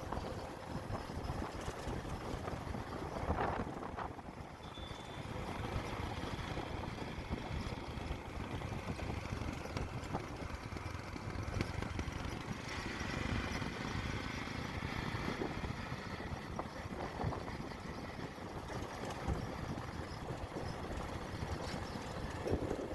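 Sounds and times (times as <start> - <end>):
motorcycle engine rumbling: 0.0 - 22.9.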